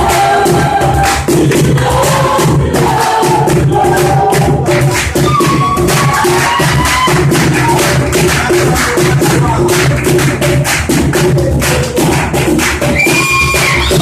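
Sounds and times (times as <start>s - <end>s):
drums and shakers beat: 0.0s - 14.0s
group of voices singing: 0.0s - 14.0s.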